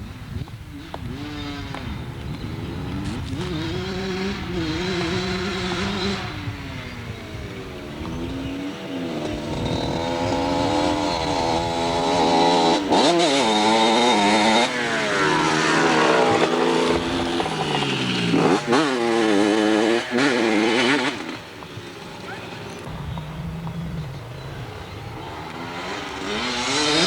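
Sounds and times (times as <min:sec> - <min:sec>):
dirt bike engine revving: 0:00.7 - 0:27.0.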